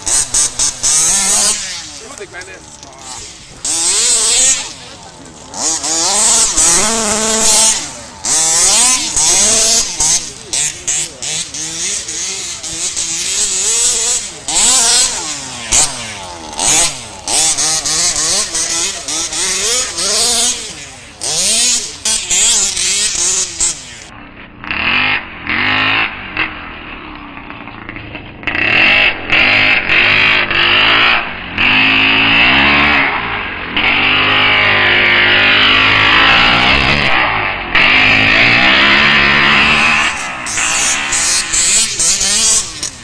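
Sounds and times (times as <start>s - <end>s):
small two-stroke engine revving: 0.0s - 43.0s.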